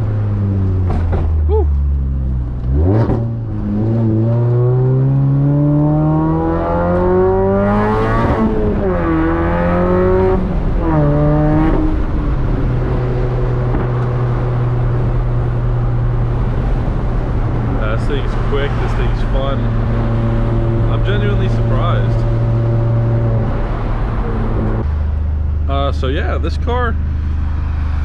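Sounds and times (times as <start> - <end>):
car engine accelerating through gears: 0.0 - 25.1.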